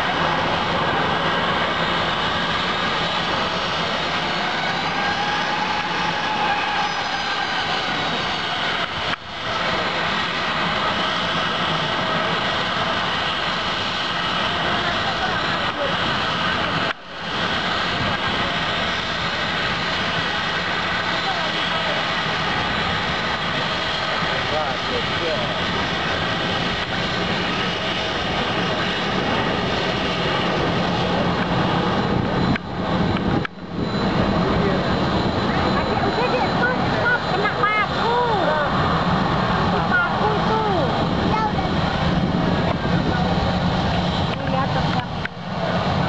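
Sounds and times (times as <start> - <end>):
jet engines running: 0.0 - 46.0.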